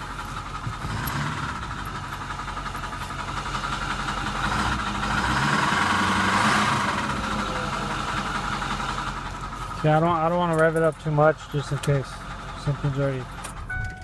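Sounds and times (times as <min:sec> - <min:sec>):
diesel engine revving: 0:00.0 - 0:14.0
engine knock: 0:00.0 - 0:14.0.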